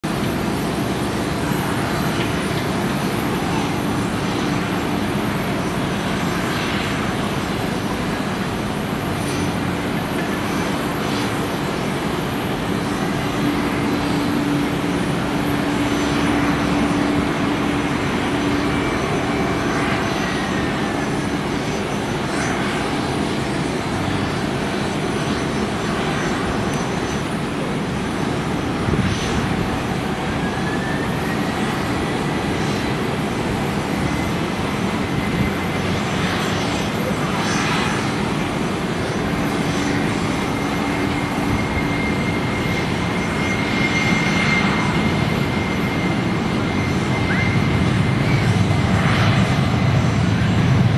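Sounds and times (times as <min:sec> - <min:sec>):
engine whine: 0:00.0 - 0:50.9
jet engines humming: 0:00.0 - 0:50.9.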